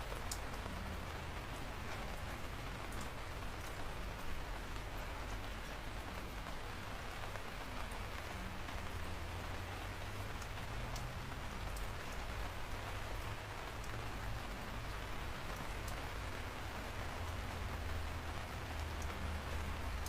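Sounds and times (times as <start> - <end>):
raindrop ticks: 0.0 - 6.5, 7.2 - 20.0
steady rain hiss: 0.0 - 20.0.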